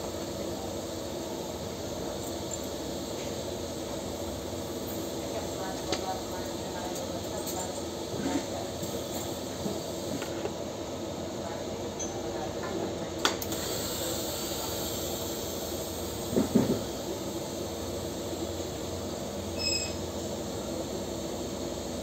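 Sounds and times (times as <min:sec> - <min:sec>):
welding equipment hiss and hum: 0:00.0 - 0:22.0.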